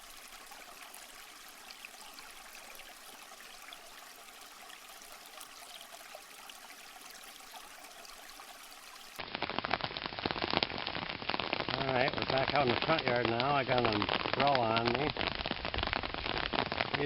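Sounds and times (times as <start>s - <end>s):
pond waterfall trickling: 0.0s - 17.0s
rain striking an umbrella: 0.0s - 17.0s.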